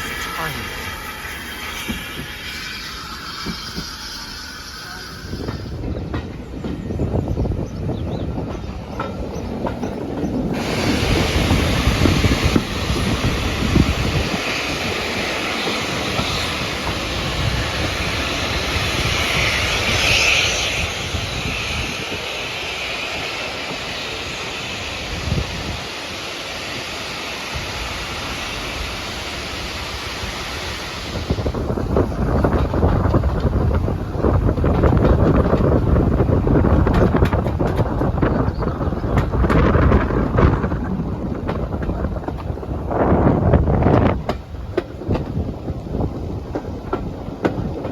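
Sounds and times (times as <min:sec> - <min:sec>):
moving train rushing: 0:00.0 - 0:47.9
wind buffeting microphone: 0:01.2 - 0:47.9.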